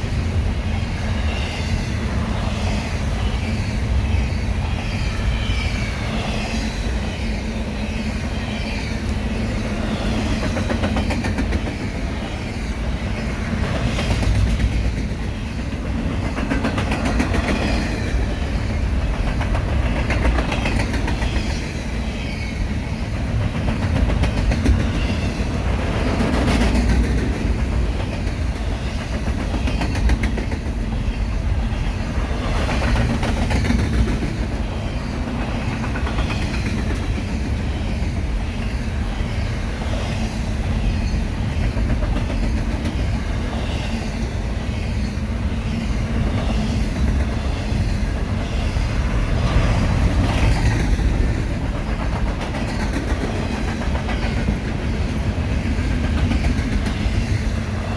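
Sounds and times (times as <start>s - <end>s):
freight train cars rumbling past: 0.0s - 57.9s
wheels clacking over rail joints: 9.0s - 38.6s, 39.6s - 57.9s.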